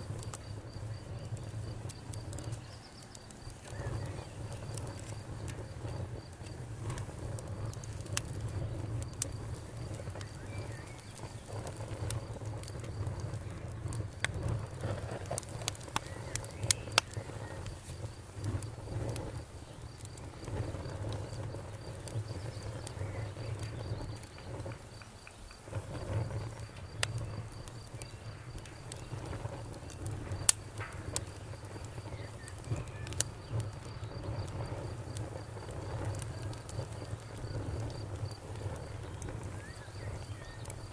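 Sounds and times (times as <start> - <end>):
campfire crackling and popping: 0.0 - 40.9
insect trill: 0.0 - 40.9.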